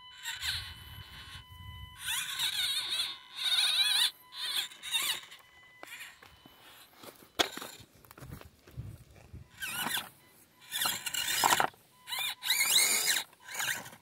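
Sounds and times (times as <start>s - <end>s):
rc car motor whining: 0.0s - 7.9s, 9.3s - 14.0s.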